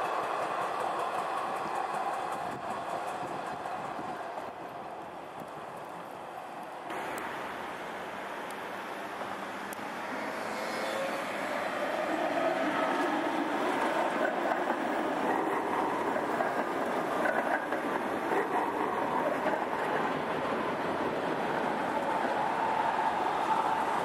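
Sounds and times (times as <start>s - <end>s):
tram drive hum: 0.0s - 24.0s
tram wheels rolling on rails: 0.0s - 24.0s.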